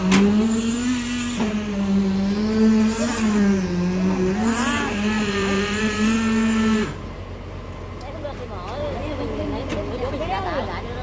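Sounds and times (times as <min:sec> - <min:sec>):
concrete vibrator motor hum: 0:00.0 - 0:11.0.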